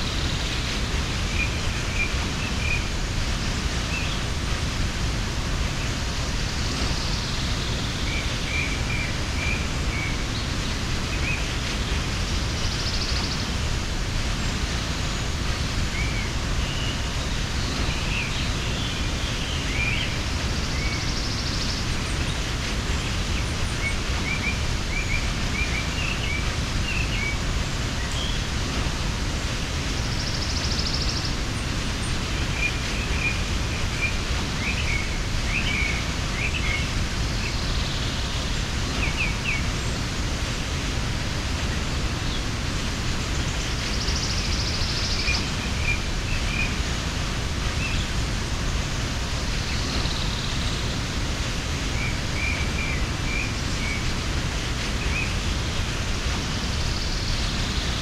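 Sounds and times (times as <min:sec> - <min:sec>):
small birds chirping: 0:00.0 - 0:58.0
waterfall rushing: 0:00.0 - 0:58.0.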